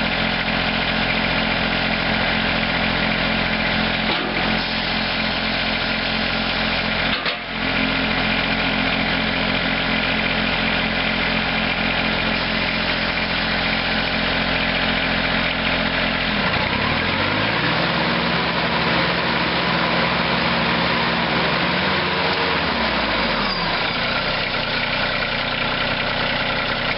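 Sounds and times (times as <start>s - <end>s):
engine idling and revving: 0.0s - 26.9s.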